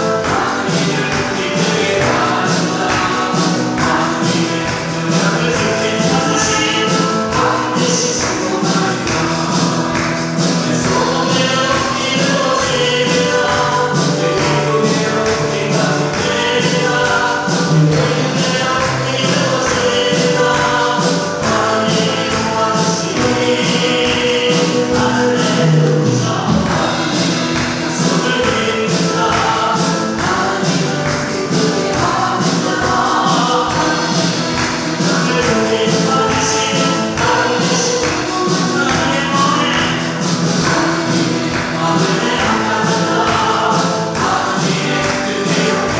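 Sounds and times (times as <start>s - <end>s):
choir singing gospel song: 0.0s - 45.9s
instrumental accompaniment: 0.0s - 45.9s.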